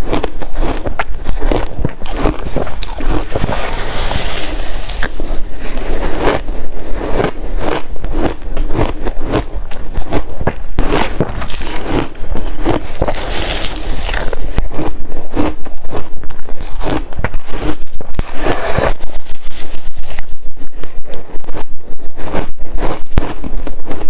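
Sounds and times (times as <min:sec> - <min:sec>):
shaved ice being chewed: 0:00.0 - 0:24.0.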